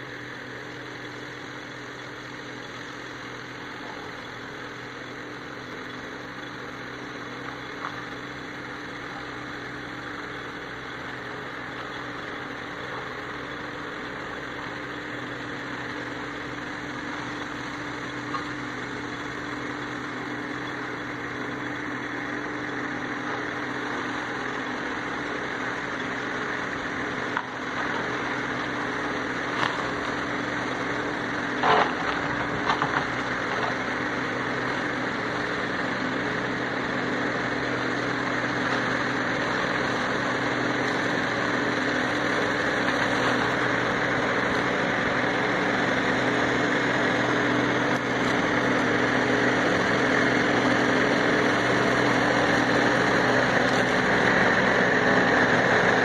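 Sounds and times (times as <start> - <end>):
mower cutting brush: 0.0 - 56.0
tractor diesel engine: 0.0 - 56.0.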